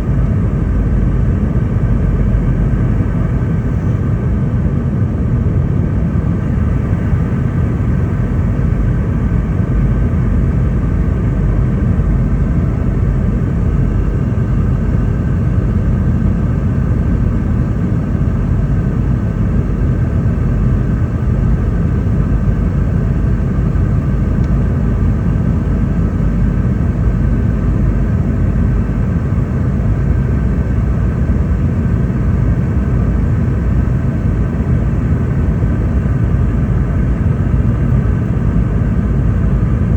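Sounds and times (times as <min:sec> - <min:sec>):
deep rumble of airflow and jet engines: 0:00.0 - 0:39.9
faint steady whining tones: 0:00.0 - 0:39.9.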